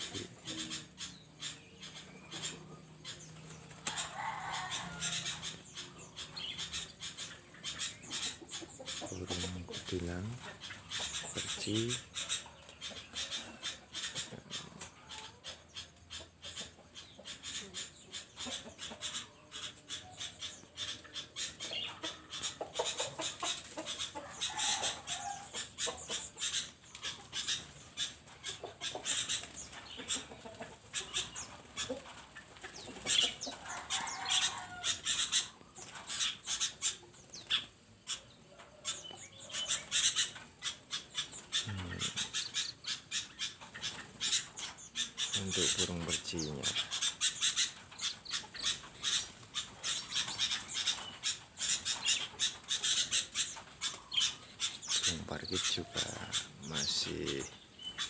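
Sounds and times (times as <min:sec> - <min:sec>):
caged birds chirping: 0:00.0 - 0:58.0.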